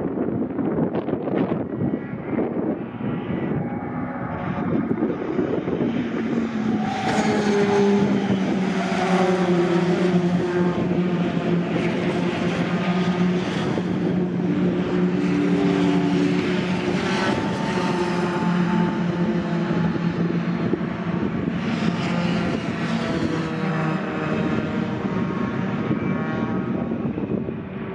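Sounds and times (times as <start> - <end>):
racing truck engines: 0.0 - 27.9.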